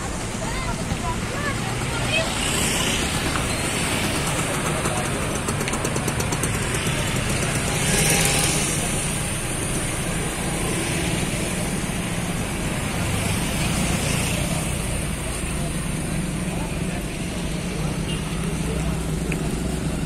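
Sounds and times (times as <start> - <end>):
car engines running: 0.0 - 20.0
motorcycle engine running: 0.0 - 20.0.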